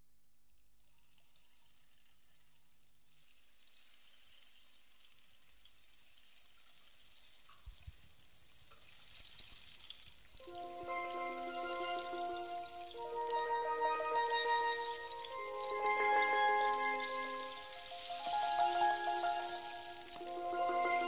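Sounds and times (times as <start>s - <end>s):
soft high crackling hiss: 0.5s - 21.0s.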